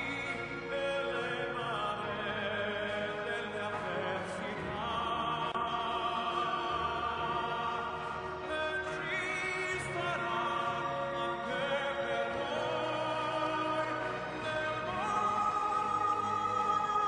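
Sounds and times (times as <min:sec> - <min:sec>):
operatic singing voice: 0:00.0 - 0:17.0
orchestra: 0:00.0 - 0:17.0.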